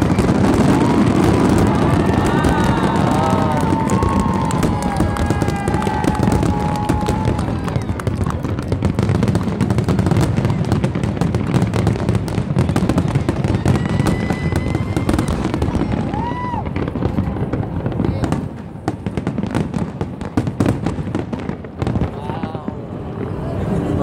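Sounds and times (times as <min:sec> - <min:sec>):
fireworks bursting: 0:00.0 - 0:24.0
fireworks crackling: 0:00.0 - 0:24.0.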